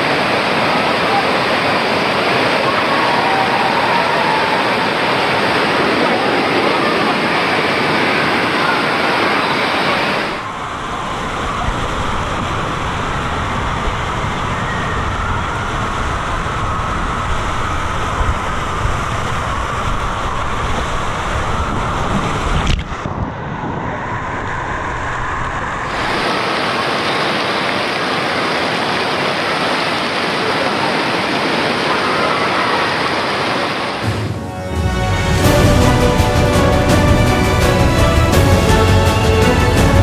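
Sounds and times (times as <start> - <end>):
hiss of flowing water: 0.0 - 34.2
water rushing down a slide: 0.0 - 34.3.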